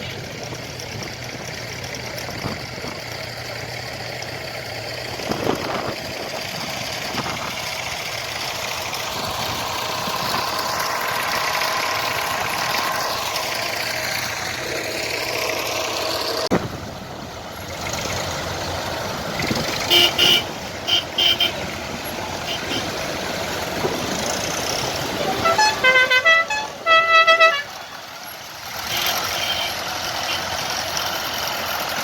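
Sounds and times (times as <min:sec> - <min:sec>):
tractor engines idling: 0:00.0 - 0:32.0.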